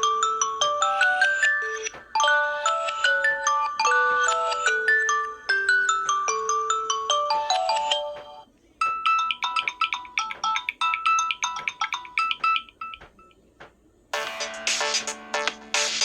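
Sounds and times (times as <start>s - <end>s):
bell-like ringtone notes: 0.0s - 13.3s
bright mallet-like ringtone melody: 0.0s - 13.3s.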